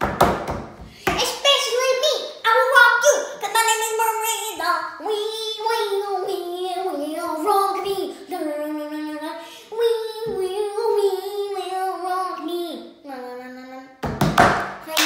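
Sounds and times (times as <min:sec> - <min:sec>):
girl singing with wavering pitch: 0:01.2 - 0:14.0.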